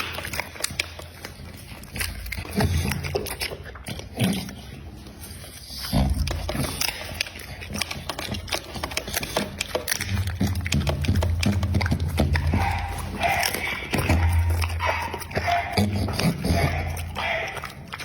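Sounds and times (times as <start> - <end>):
dog chewing meat: 0.0 - 18.0.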